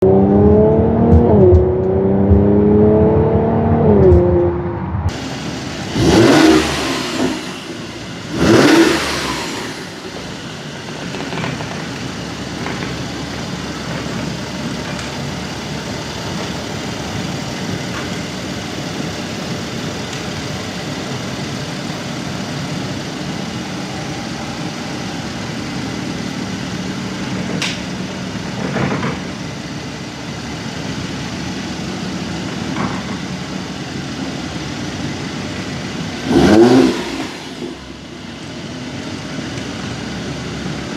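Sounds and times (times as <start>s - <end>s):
car engine idling: 0.0s - 40.9s
engine throttle blips: 0.0s - 40.9s.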